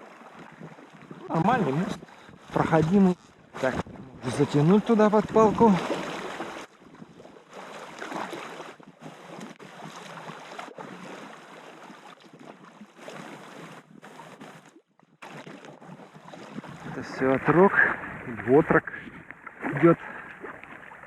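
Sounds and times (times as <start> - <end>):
water splashing and rushing: 0.0 - 21.0.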